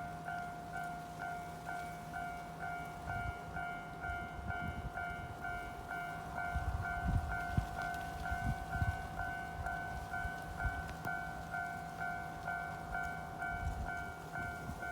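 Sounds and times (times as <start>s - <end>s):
level crossing warning bell ringing: 0.0s - 14.9s
low rumble of passing train: 0.0s - 14.9s.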